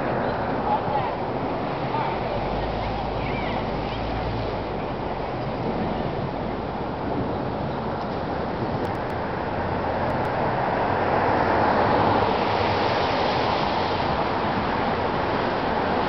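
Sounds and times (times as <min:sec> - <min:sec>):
cars passing close by: 0:00.0 - 0:16.0.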